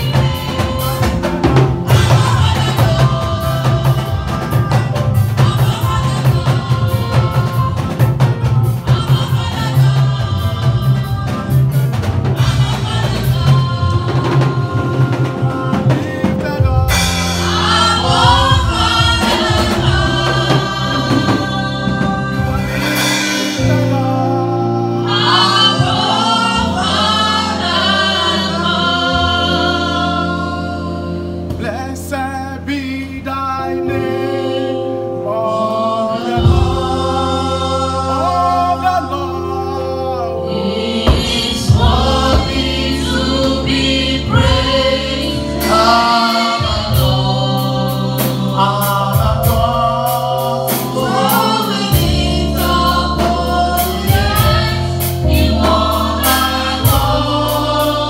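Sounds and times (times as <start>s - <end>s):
gospel music with drums and bass: 0.0s - 58.0s.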